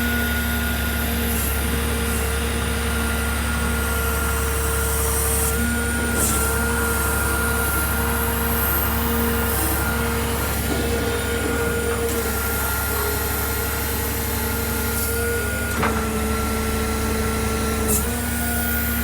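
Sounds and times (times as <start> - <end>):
diesel truck engine running: 2.6 - 18.9.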